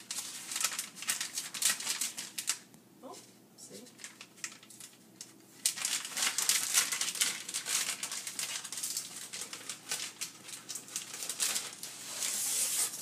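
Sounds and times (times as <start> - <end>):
tape peeling crackle: 0.0 - 2.7, 4.0 - 13.0.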